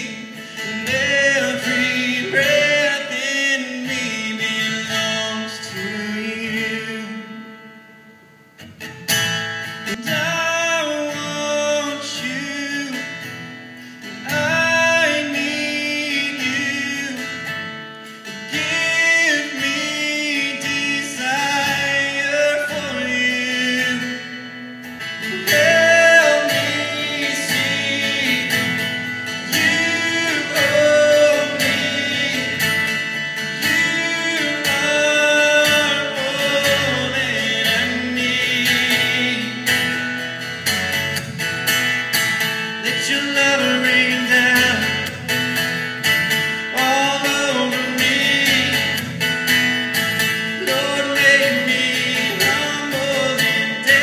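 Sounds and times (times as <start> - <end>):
man singing: 0.0 - 7.6, 9.9 - 13.4, 14.0 - 17.6, 18.3 - 40.1, 42.8 - 45.2, 46.6 - 49.3, 50.2 - 54.0
acoustic guitar strumming: 0.0 - 54.0.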